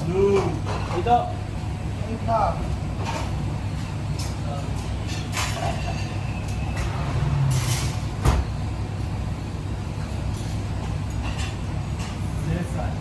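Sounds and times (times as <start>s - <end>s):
low kitchen rumble: 0.0s - 13.0s.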